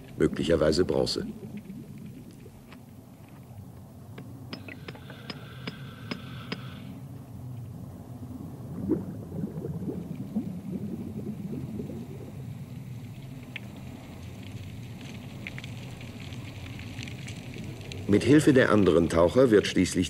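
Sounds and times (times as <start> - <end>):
underwater bubbling and gurgling: 0.0 - 18.9.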